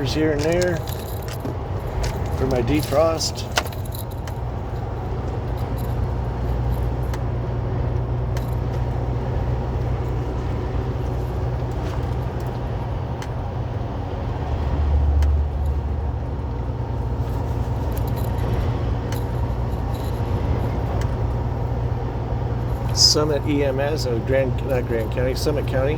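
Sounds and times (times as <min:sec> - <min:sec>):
truck engine and road drone: 0:00.0 - 0:25.9.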